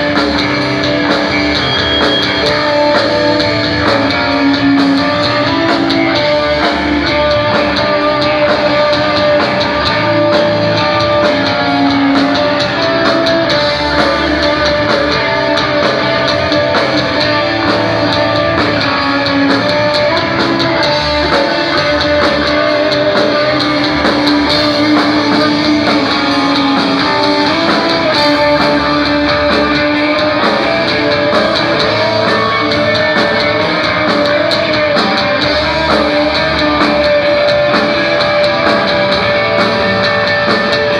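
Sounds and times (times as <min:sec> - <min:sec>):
drum kit: 0:00.0 - 0:40.9
electric guitar: 0:00.0 - 0:40.9.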